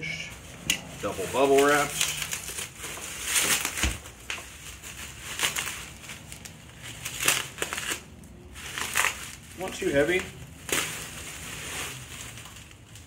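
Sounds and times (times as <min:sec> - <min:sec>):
bubble wrap crinkling: 0:00.1 - 0:13.0.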